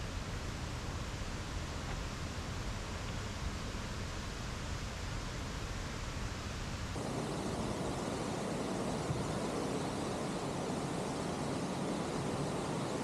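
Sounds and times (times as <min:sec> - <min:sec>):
mountain stream rushing: 0:00.1 - 0:13.0.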